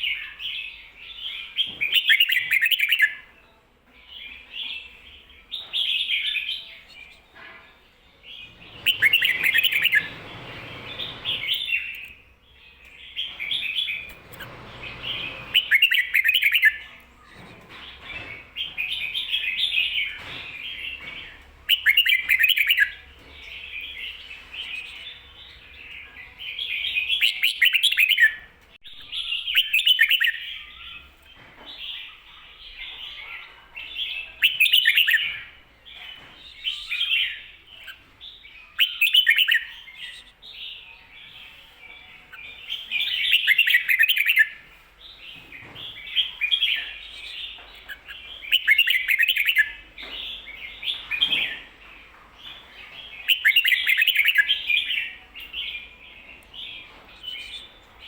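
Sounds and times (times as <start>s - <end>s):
bird singing warbled phrases: 0.0s - 3.4s, 4.0s - 7.5s, 8.2s - 58.0s.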